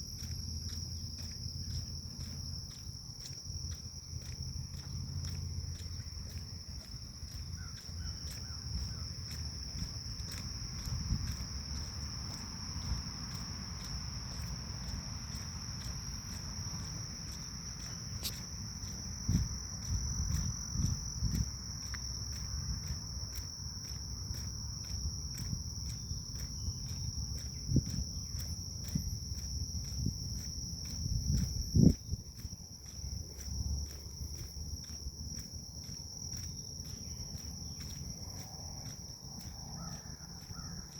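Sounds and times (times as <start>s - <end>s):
crickets singing: 0.0s - 40.9s
footsteps on forest path: 0.0s - 40.9s.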